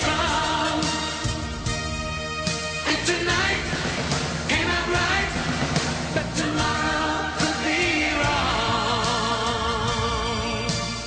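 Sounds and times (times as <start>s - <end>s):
recorded pop song: 0.0s - 11.0s.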